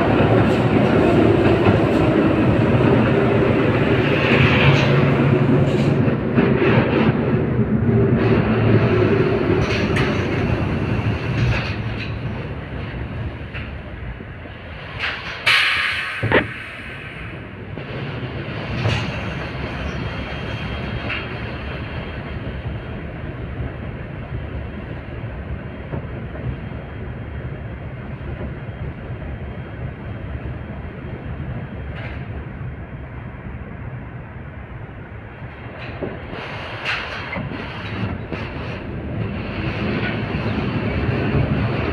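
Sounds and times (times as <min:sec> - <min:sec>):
tram wheels rumbling on rails: 0:00.0 - 0:41.9.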